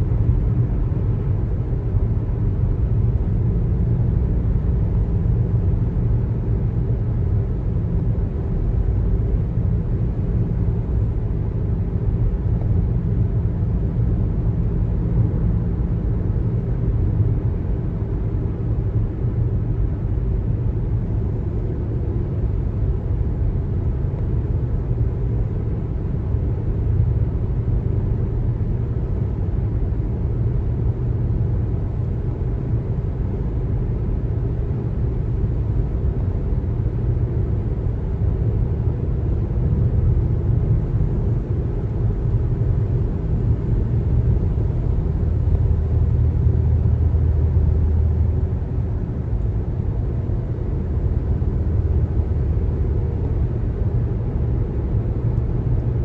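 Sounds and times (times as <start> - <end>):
car driving rumble: 0.0 - 56.0
faint steady hum: 0.0 - 56.0.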